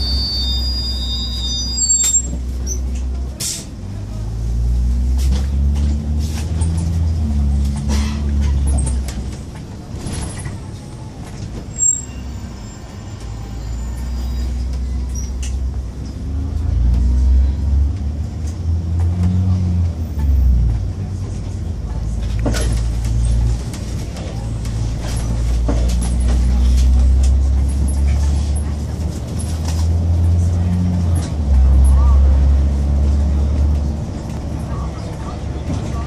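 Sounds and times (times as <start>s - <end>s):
bus engine under way: 0.0s - 36.0s.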